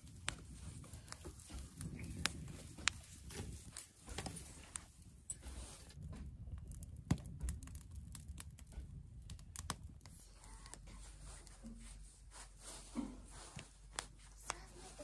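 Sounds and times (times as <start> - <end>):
small fire crackling: 0.0 - 15.0.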